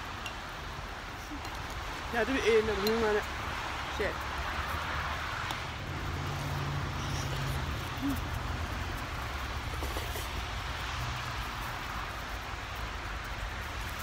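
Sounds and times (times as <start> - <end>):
steady hiss: 0.0 - 14.0
vehicle engine hum: 0.0 - 14.0.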